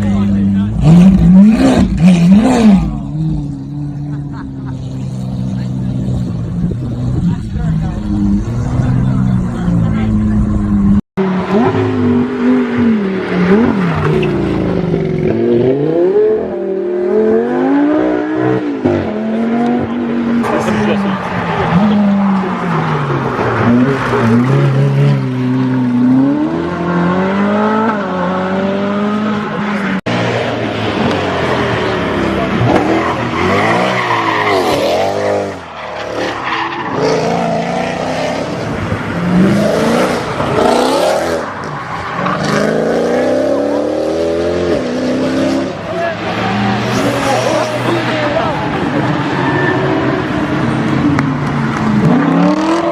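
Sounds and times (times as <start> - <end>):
tyres skidding: 0.0 - 52.9
car engine revving hard: 0.6 - 36.2, 36.9 - 52.9.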